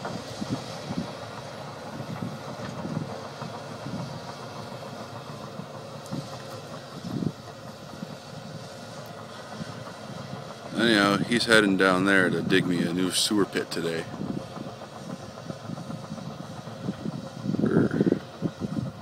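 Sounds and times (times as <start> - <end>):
distant excavator diesel engine: 0.0 - 19.0
steel tracks clattering: 0.0 - 19.0.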